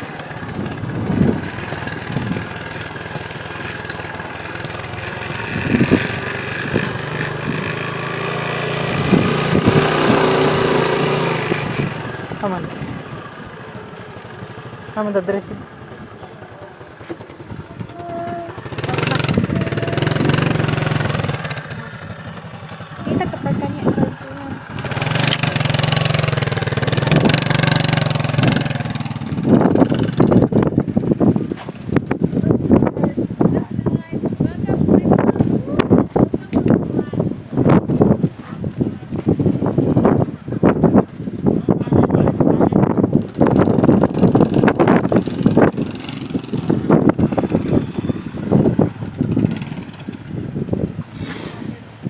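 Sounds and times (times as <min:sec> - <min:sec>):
vehicle engine running: 0:00.0 - 0:51.8.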